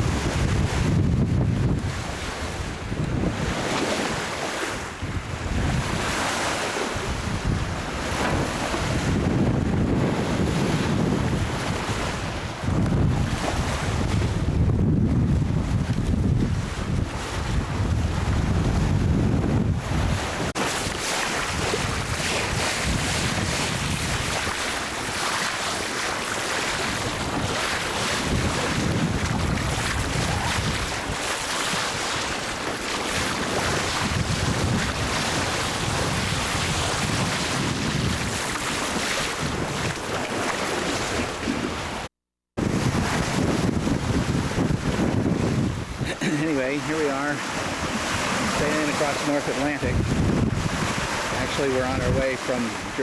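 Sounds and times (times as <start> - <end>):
sea water rushing past hull: 0.0 - 53.0
wind buffeting microphone: 0.0 - 53.0.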